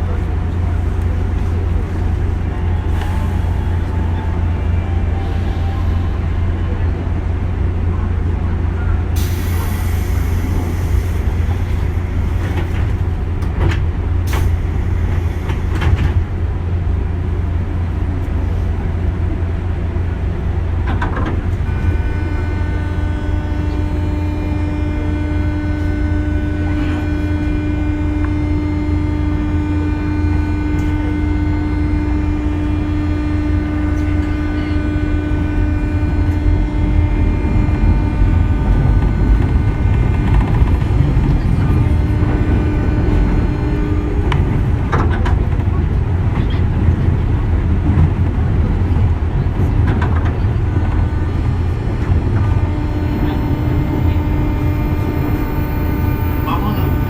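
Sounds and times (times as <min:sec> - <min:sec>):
electric train tonal hum: 0:00.0 - 0:57.0
train wheels rumbling on rails: 0:00.0 - 0:57.0.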